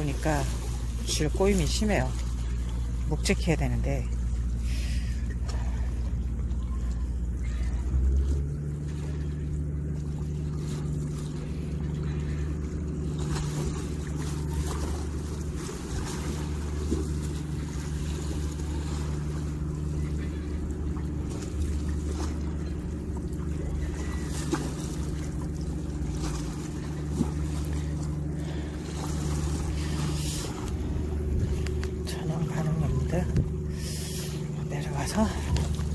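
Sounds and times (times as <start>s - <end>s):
boat engine running: 0.0s - 35.9s.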